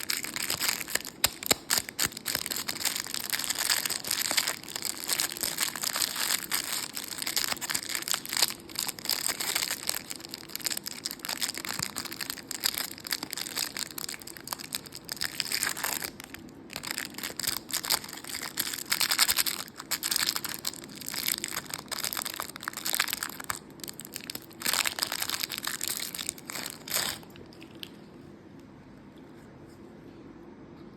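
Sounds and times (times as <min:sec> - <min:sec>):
chocolate lollipops crackling: 0:00.0 - 0:28.0
wrappers crinkling: 0:00.0 - 0:28.0.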